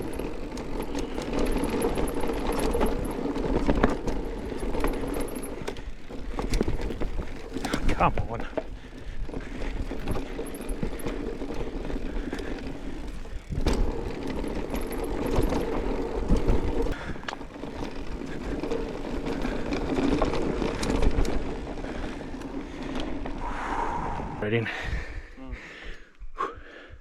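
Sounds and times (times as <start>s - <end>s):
bike knocks and rattles: 0.0s - 22.9s
tyre and drivetrain noise: 0.0s - 24.0s.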